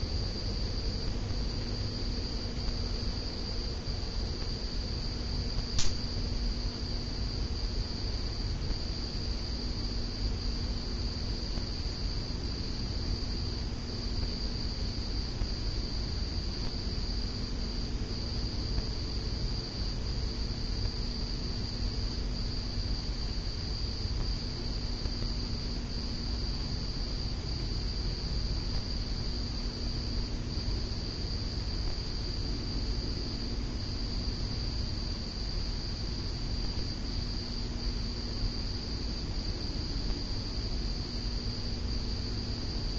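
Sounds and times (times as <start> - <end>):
ceiling fan humming: 0.0 - 42.9.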